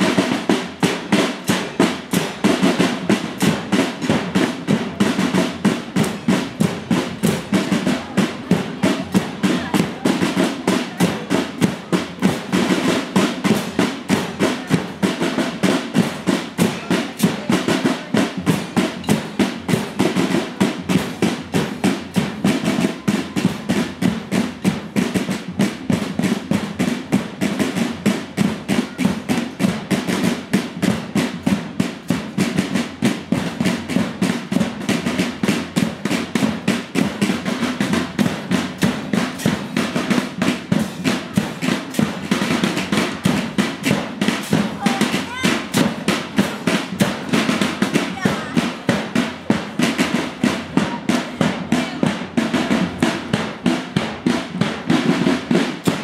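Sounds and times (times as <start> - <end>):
marching drum band: 0.0 - 56.0.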